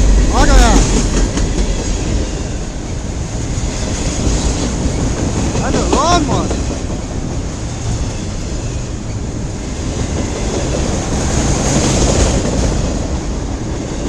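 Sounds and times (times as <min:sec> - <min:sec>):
freight train wheels on rails: 0:00.0 - 0:14.0.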